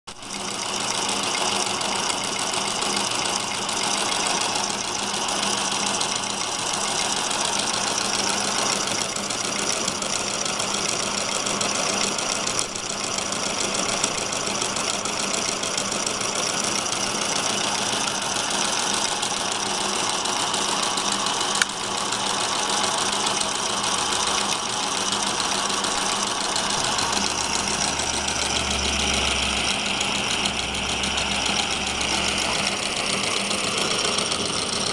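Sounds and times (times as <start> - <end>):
model steam engine chuffing: 0.2 - 34.9.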